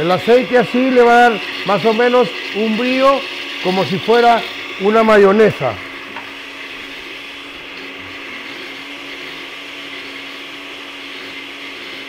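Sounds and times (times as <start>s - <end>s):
blender motor humming: 0.0s - 12.0s.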